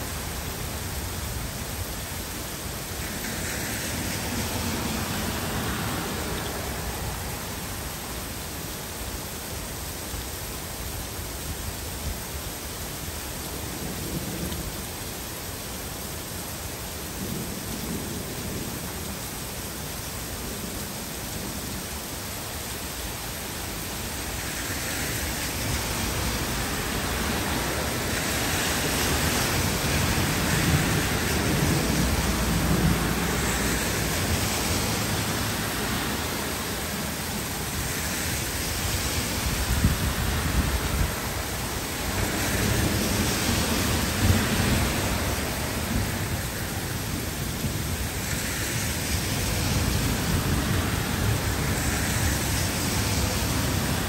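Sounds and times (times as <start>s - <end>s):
car tyres swishing on wet road: 0.0s - 54.0s
heavy rain hissing: 0.0s - 54.0s.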